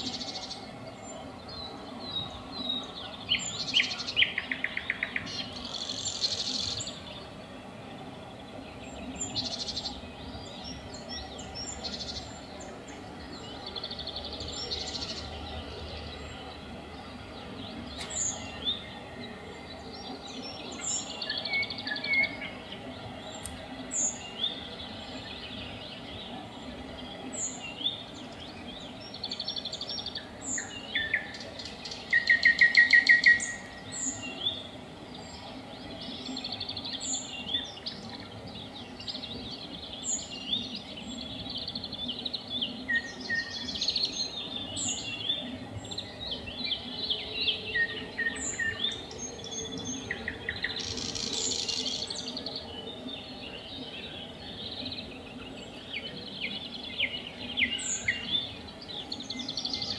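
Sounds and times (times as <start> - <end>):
nightingales singing: 0.0 - 59.9.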